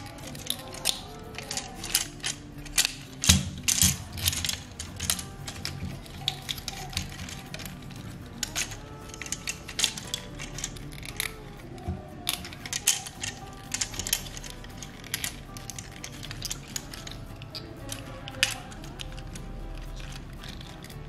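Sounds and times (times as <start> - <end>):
plastic parts clicking and snapping: 0.0 - 21.0.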